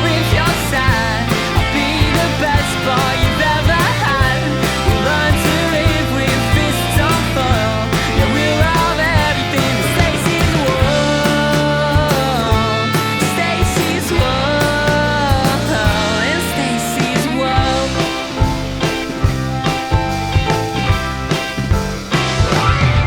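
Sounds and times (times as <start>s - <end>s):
guitar-band rock music: 0.0s - 23.0s.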